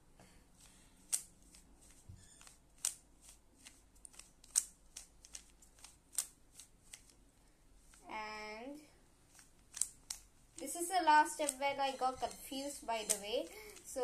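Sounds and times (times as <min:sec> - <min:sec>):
puzzle cube plastic clicks: 0:00.6 - 0:07.2, 0:09.3 - 0:14.0.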